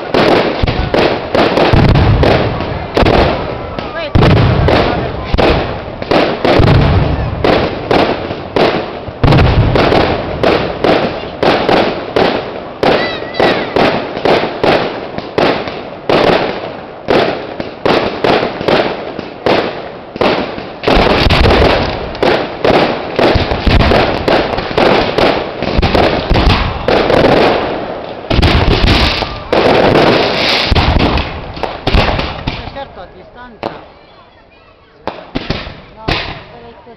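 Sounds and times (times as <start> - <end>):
heavy firework booms: 0.0 - 34.0, 35.0 - 36.7
fireworks bangs and crackles: 0.0 - 36.9.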